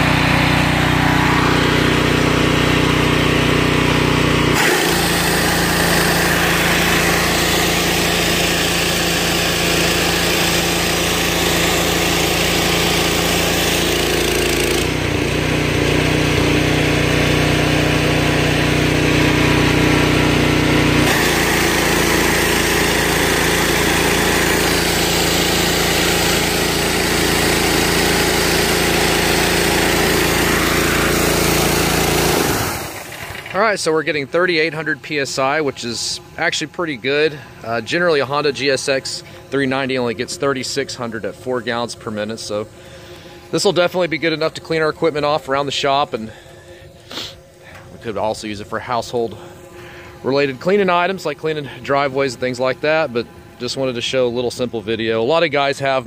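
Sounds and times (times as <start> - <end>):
gasoline engine running: 0.0 - 56.0.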